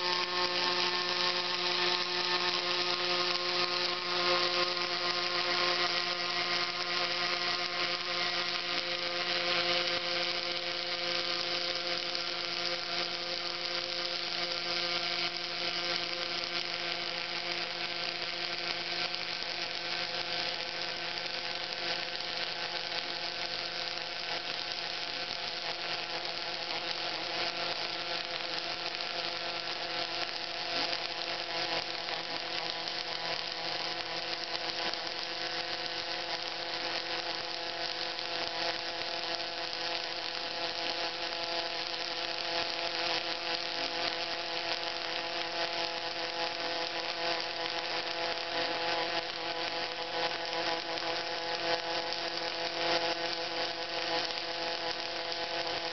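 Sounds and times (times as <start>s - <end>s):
welding arc crackling hiss: 0.0s - 55.9s
welding equipment hum: 0.0s - 55.9s.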